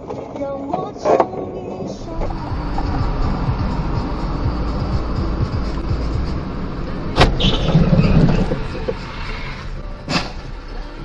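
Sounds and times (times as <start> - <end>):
car low rumble: 0.8 - 11.0.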